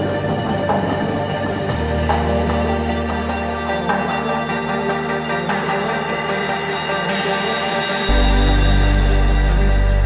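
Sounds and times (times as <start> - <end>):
music with sustained chords: 0.0 - 10.0.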